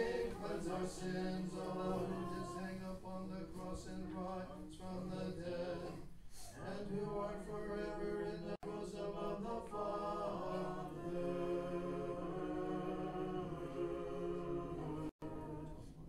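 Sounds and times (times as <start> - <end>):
voices chanting a cappella: 0.0 - 16.0.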